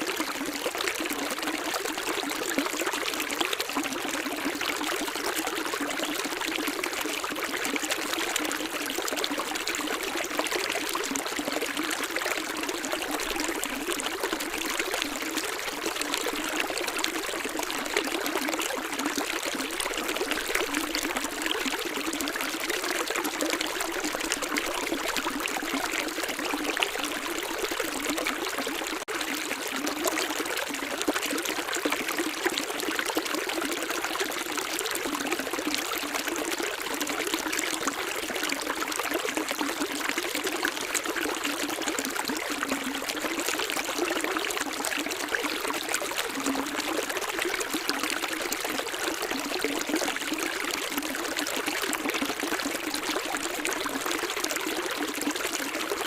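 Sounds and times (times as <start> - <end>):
stream trickling and splashing: 0.0 - 56.0.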